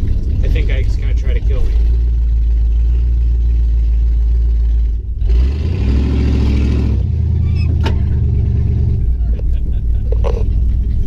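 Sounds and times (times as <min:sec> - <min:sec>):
car exhaust running: 0:00.0 - 0:11.0.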